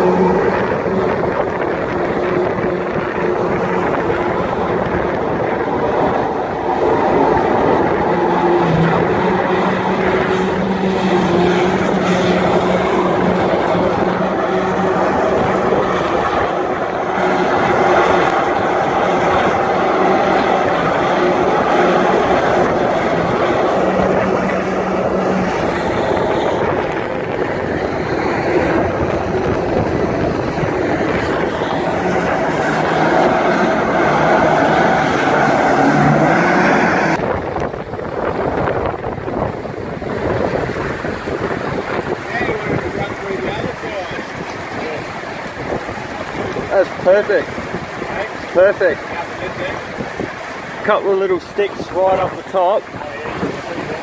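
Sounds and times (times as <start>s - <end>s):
engine and pump hum: 0.0s - 54.0s
water jetting and pouring: 0.0s - 54.0s.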